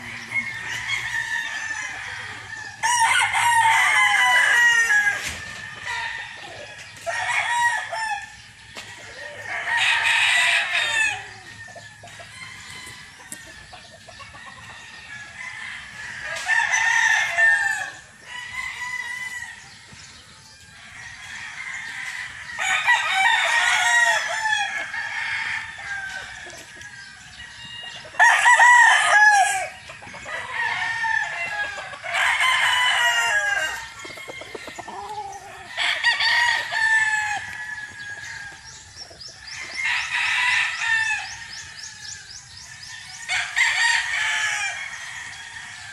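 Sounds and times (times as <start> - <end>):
roosters crowing: 0.0 - 45.9.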